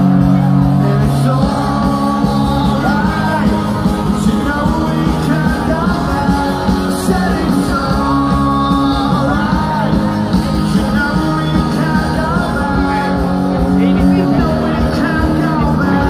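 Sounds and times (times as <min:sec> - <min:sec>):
person singing: 0:00.0 - 0:16.0
rock band playing live: 0:00.0 - 0:16.0.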